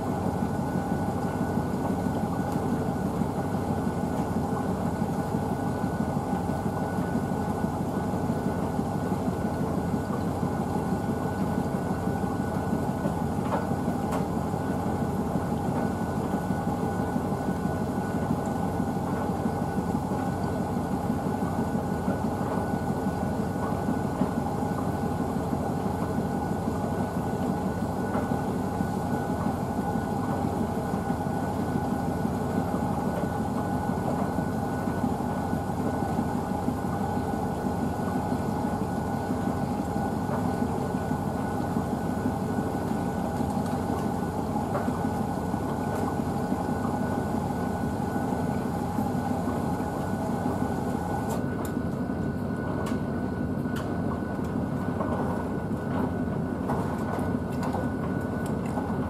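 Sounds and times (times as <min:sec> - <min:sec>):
washing machine hum: 0:00.0 - 0:59.0.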